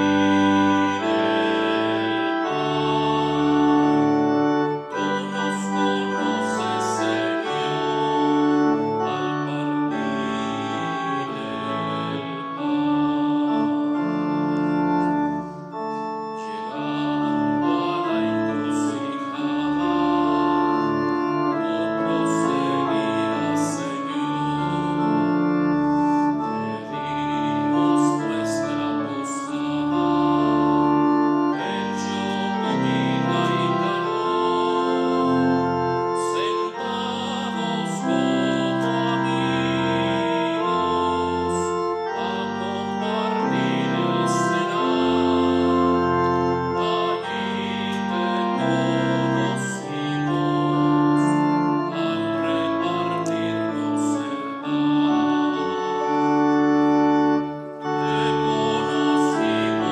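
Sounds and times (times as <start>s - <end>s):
organ playing a hymn: 0.0s - 59.9s.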